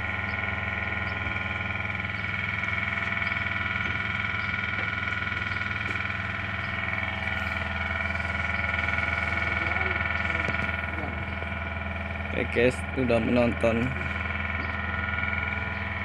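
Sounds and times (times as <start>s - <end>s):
ship machinery drone: 0.0s - 16.0s.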